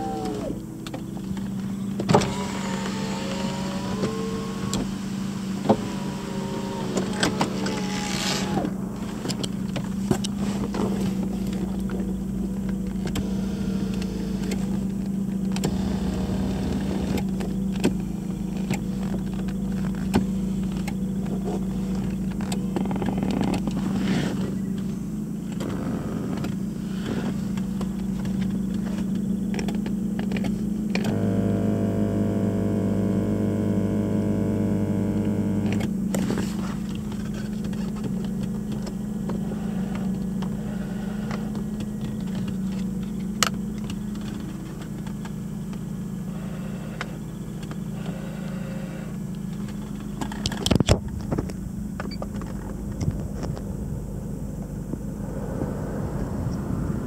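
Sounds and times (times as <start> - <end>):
motor whine rising in pitch: 0.0 - 57.0
steady hum: 0.0 - 57.0.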